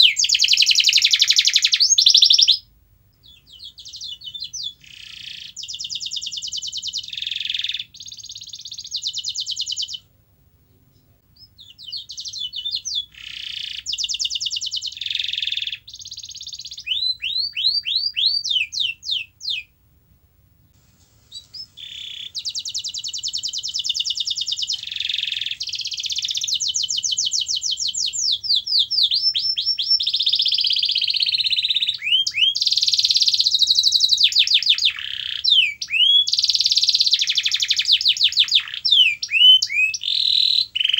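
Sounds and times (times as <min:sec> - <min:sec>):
canary singing trills: 0:00.0 - 0:10.1, 0:11.3 - 0:19.8, 0:21.2 - 0:40.9.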